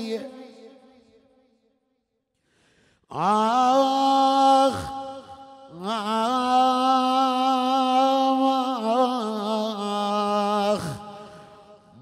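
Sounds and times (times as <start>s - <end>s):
man chanting a lament: 0.0s - 1.4s, 3.0s - 12.0s.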